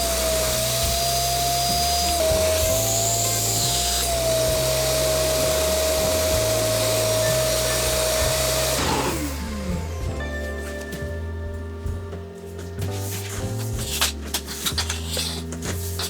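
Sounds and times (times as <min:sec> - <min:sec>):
background music: 0:00.0 - 0:16.0
shop vacuum motor whine: 0:00.0 - 0:16.0.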